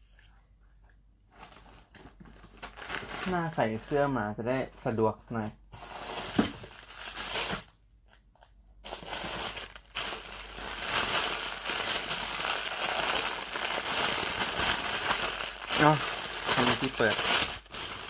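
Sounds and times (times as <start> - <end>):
crinkling and rustling handling noise: 0.0 - 3.9, 4.7 - 18.0.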